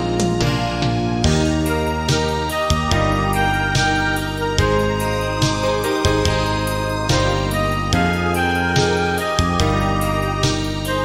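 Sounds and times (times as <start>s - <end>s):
low bass: 0.0s - 11.0s
soft keyboard chords: 0.0s - 11.0s.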